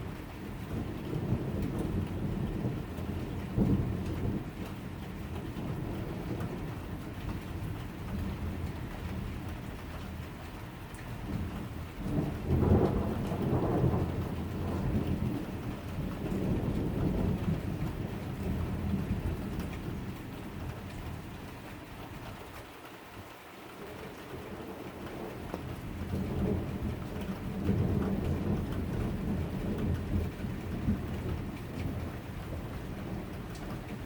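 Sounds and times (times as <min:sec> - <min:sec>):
thunder rumbling: 0:00.0 - 0:09.9, 0:11.2 - 0:21.4, 0:23.8 - 0:34.0
steady rain: 0:00.0 - 0:34.0.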